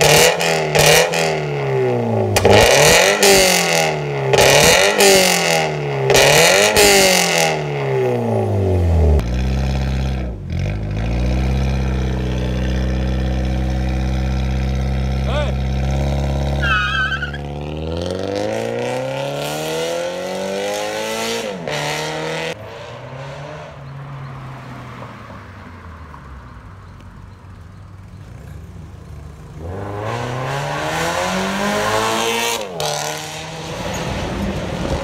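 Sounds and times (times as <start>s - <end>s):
car engine accelerating hard: 0.0s - 23.8s, 29.5s - 35.0s.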